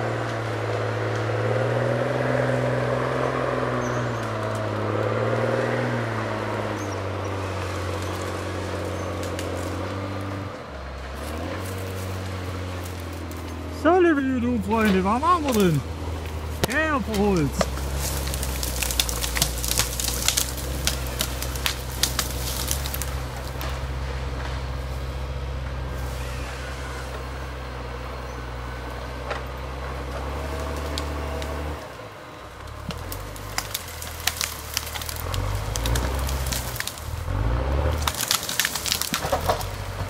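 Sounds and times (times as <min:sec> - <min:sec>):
tractor diesel engine running: 0:00.0 - 0:40.0
branches snapping: 0:02.7 - 0:13.7, 0:14.7 - 0:27.3, 0:29.1 - 0:31.8, 0:32.6 - 0:40.0.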